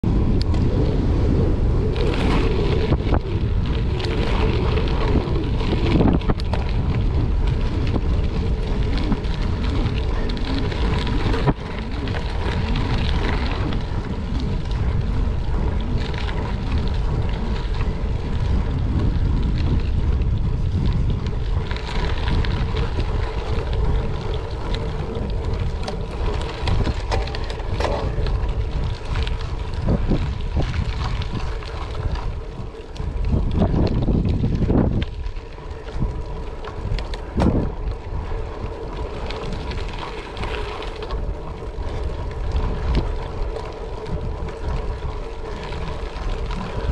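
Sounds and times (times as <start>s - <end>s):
wind buffeting microphone: 0.0s - 46.9s
tyres rolling on gravel: 0.1s - 46.9s.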